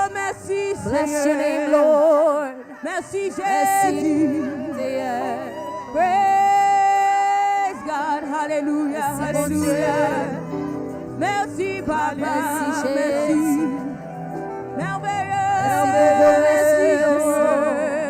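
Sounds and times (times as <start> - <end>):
gospel singing with vibrato: 0.0 - 18.0
sustained instrumental accompaniment: 3.4 - 18.0.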